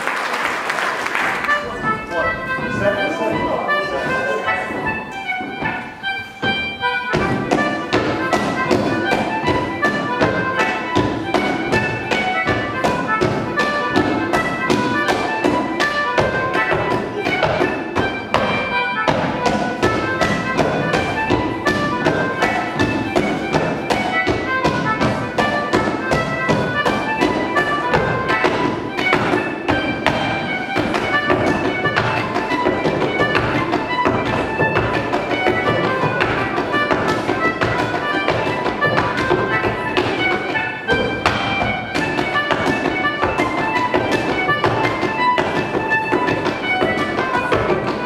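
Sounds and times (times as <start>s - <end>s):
lively dance tune: 0.0s - 48.0s
hard shoes tapping on wooden board: 1.4s - 48.0s.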